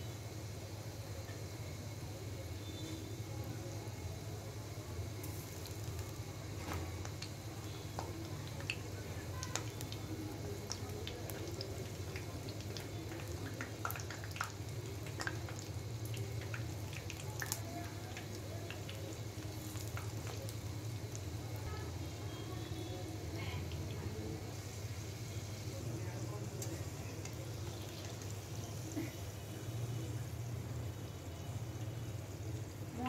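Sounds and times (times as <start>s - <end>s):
fritters sizzling in oil: 0.0s - 33.0s.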